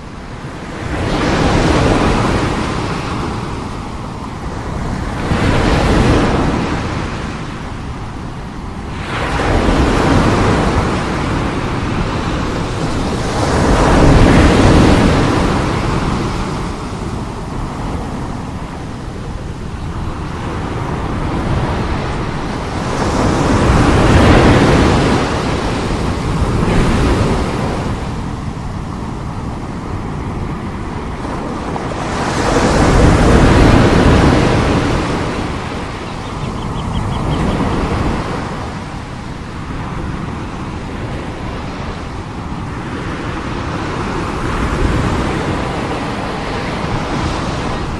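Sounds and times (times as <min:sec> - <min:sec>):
sea waves crashing: 0:00.0 - 0:47.9.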